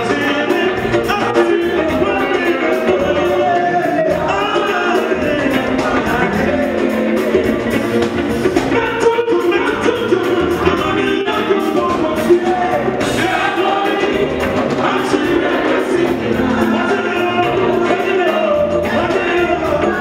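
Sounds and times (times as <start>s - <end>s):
drums: 0.0s - 20.0s
men singing gospel: 0.0s - 20.0s.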